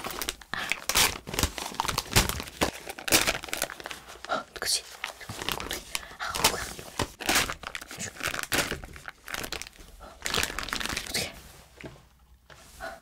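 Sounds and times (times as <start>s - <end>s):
plastic sheet crinkling: 0.0s - 11.4s.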